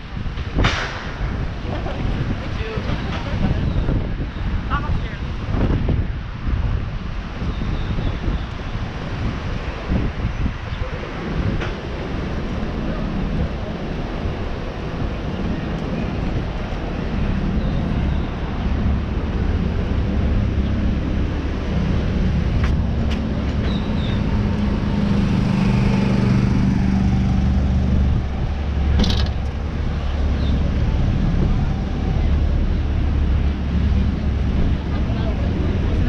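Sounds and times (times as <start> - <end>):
road traffic noise: 0.0 - 36.0
vehicle engine humming: 5.6 - 36.0.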